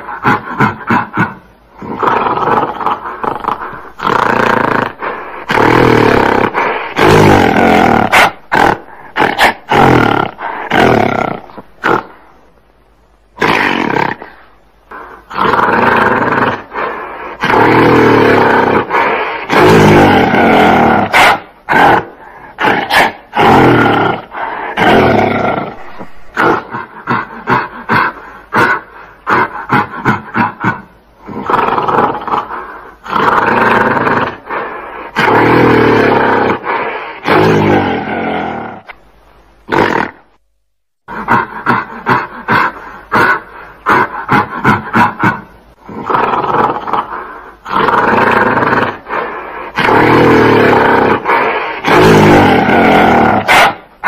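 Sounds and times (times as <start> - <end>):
gorilla roaring and growling: 0.0 - 12.2, 13.4 - 39.0, 39.7 - 40.3, 41.1 - 54.0.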